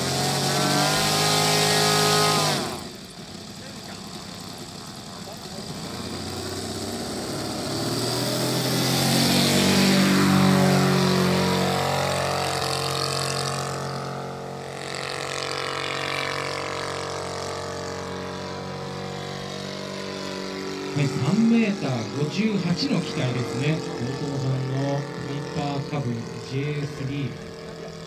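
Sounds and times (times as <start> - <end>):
model plane engine flying past: 0.0 - 28.0.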